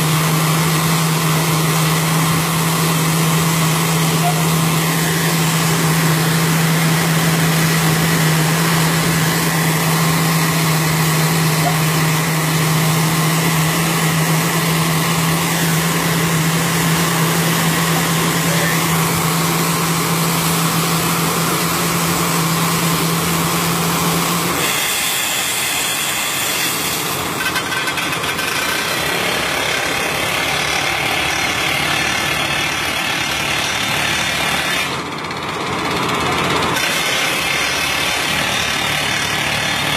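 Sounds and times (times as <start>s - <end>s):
excavator engine running: 0.0s - 39.9s
hydraulic rock drill boring stone: 0.0s - 39.9s.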